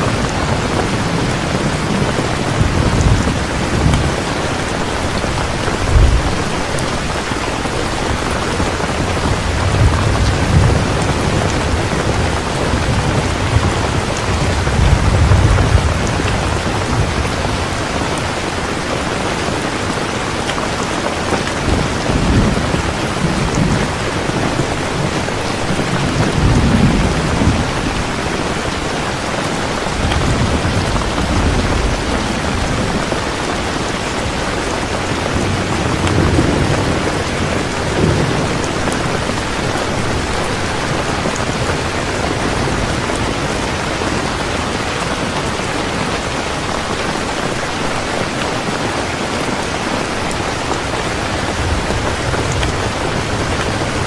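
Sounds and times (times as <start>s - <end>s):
low thunder rumbling: 0.0s - 19.1s, 21.3s - 46.3s
heavy rain falling: 0.0s - 54.0s.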